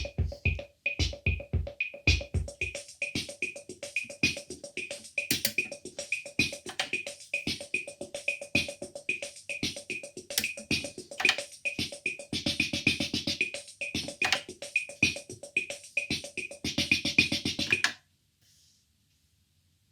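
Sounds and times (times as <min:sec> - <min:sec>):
drum machine rhythm: 0:00.0 - 0:18.0.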